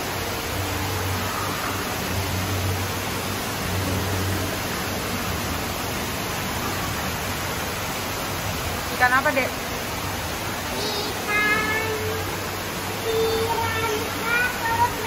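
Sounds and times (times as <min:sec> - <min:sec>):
running water: 0:00.0 - 0:15.0.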